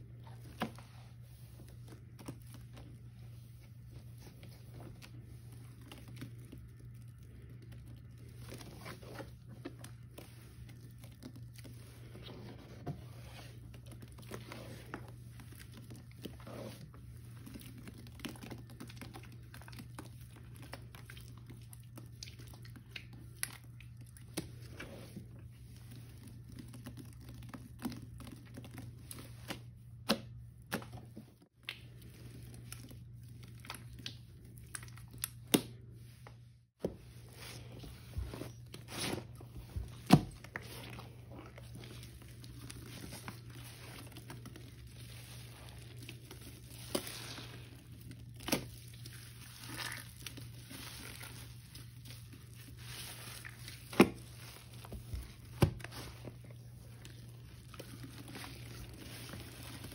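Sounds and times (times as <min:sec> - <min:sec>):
wet sponges squishing: 0:00.0 - 0:59.9.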